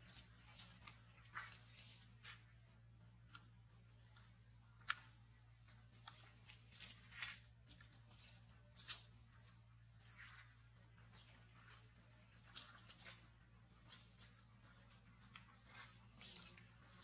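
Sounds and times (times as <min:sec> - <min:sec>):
crackles and rustles on dry leaves: 0:00.0 - 0:02.6, 0:05.0 - 0:17.0.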